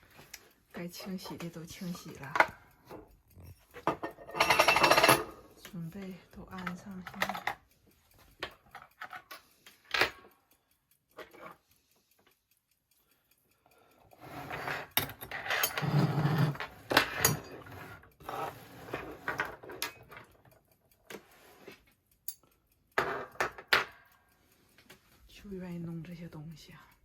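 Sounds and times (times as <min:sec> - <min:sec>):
small metal clock parts clinking: 0:00.0 - 0:27.0.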